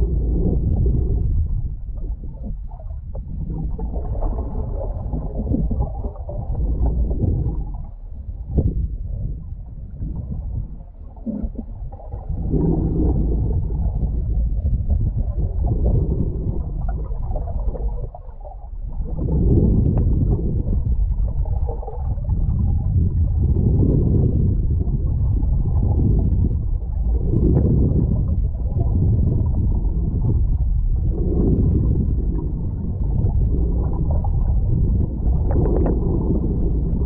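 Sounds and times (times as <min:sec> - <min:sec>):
muffled underwater water rushing: 0:00.0 - 0:37.0.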